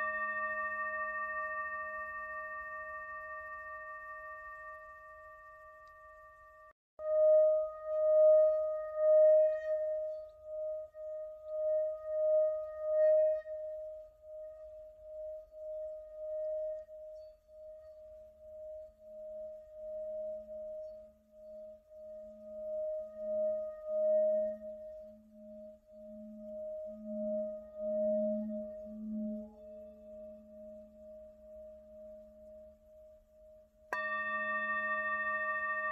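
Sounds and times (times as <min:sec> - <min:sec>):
mallet circling bowl rim tone: 0:00.0 - 0:35.9
singing bowl ringing hum: 0:00.0 - 0:35.9.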